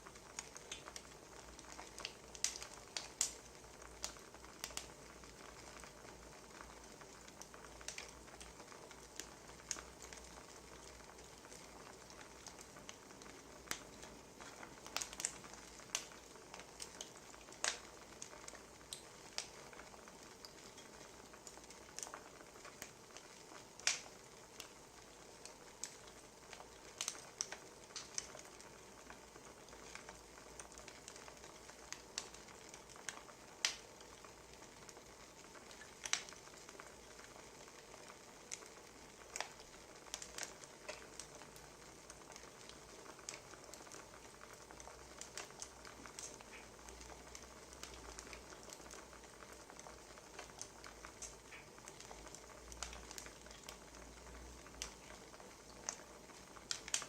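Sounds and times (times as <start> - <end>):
soft steady hiss: 0.0 - 57.0
wood fire crackling: 0.0 - 57.0.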